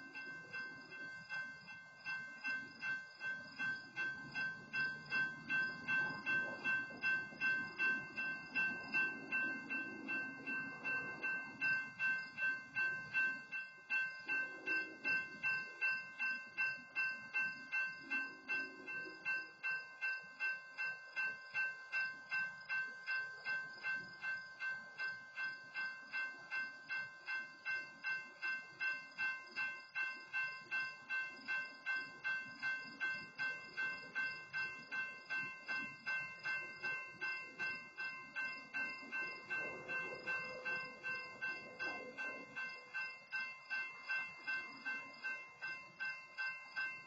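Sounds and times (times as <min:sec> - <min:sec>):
railroad crossing bell ringing: 0:00.0 - 0:47.0.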